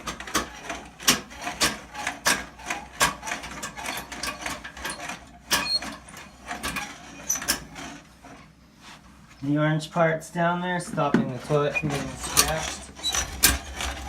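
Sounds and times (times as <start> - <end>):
toilet auger clicking and rattling: 0.0 - 8.4, 11.0 - 14.0.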